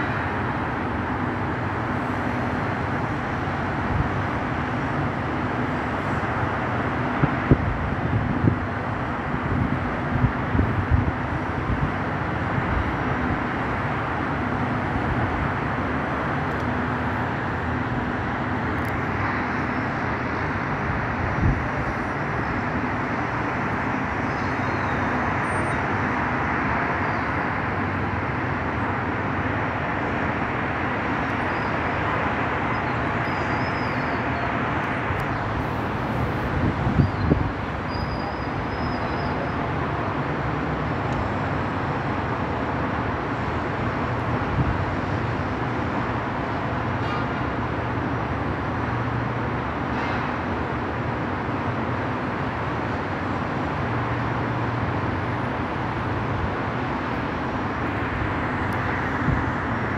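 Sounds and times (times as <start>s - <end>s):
distant city traffic hum: 0.0s - 59.9s.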